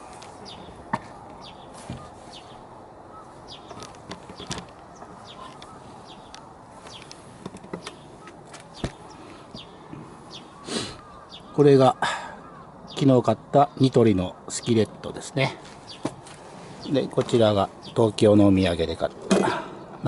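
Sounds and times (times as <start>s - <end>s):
background hiss: 0.0s - 20.0s
small birds chirping: 0.0s - 20.0s.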